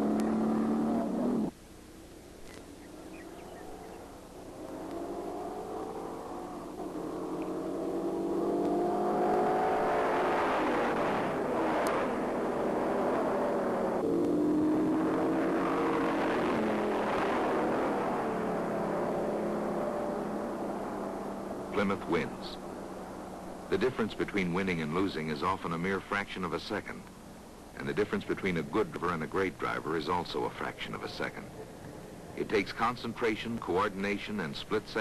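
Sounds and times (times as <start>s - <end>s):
muscle car engines accelerating: 0.0s - 1.6s, 2.5s - 35.0s.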